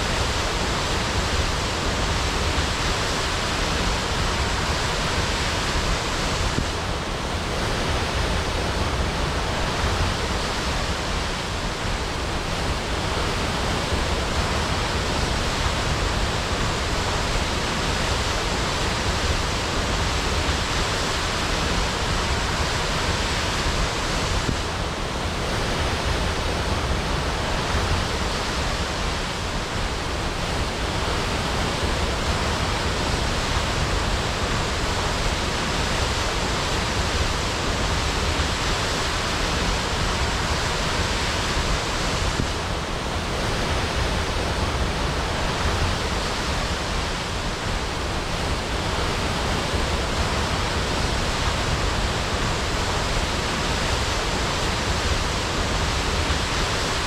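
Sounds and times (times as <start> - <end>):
waterfall crashing: 0.0 - 57.0.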